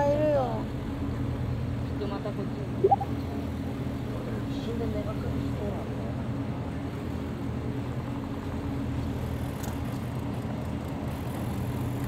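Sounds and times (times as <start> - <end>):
ship engine humming: 0.0 - 12.0.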